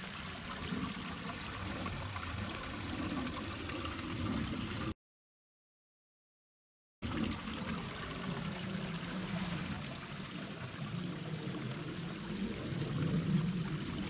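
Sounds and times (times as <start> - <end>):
flowing water rushing: 0.0 - 4.9, 7.0 - 14.0.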